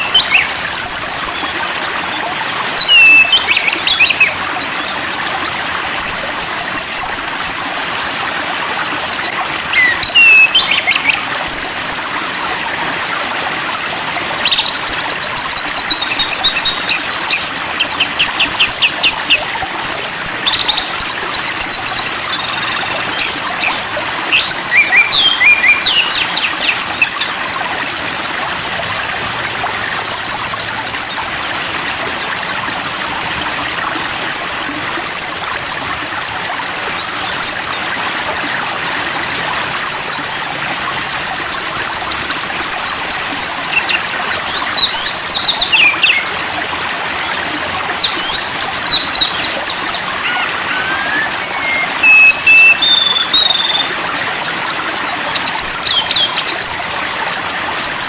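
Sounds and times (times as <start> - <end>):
songbirds chirping and trilling: 0.0 - 7.9, 8.9 - 12.1, 13.7 - 28.5, 29.1 - 58.0
trickle of running water: 0.0 - 58.0.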